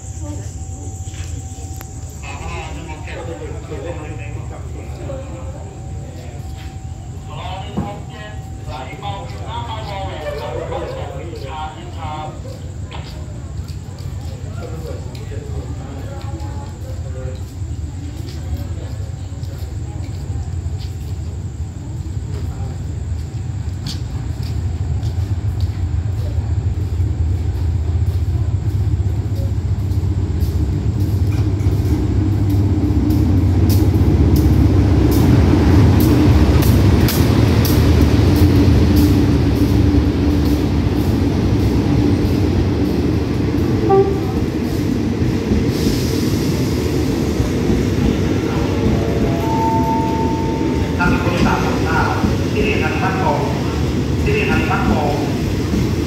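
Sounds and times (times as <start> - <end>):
diesel locomotive engine rumble: 0.0 - 56.0
train wheels clicking over rails: 0.0 - 56.0.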